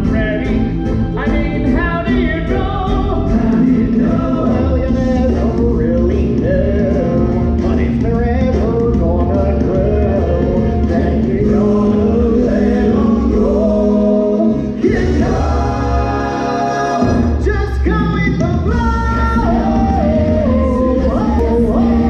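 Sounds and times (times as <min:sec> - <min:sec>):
band with strong bass line: 0:00.0 - 0:22.0
voices singing together: 0:02.0 - 0:22.0.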